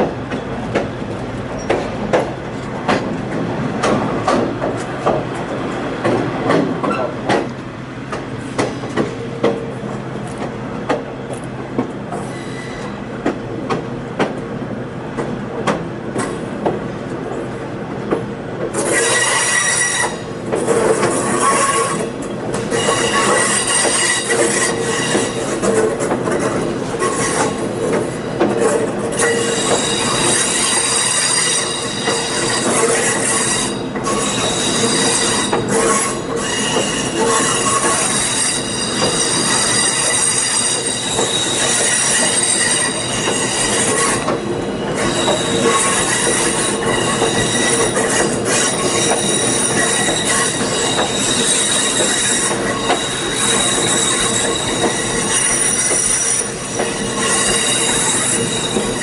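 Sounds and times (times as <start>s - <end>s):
train wheels clicking over rail joints: 0.0s - 59.0s
train wheel flanges squealing: 0.3s - 3.0s, 3.8s - 11.5s, 12.1s - 13.4s, 18.6s - 59.0s.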